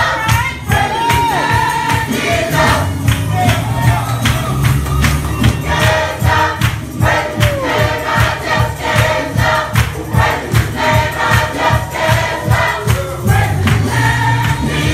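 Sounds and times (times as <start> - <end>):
gospel choir singing: 0.0 - 14.9.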